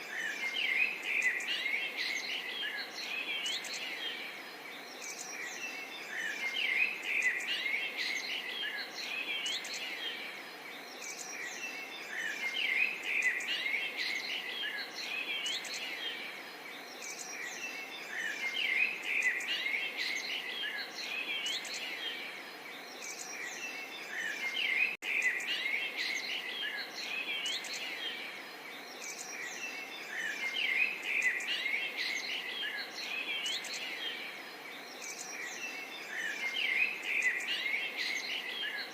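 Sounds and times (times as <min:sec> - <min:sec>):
many small birds chirping: 0:00.0 - 0:38.9.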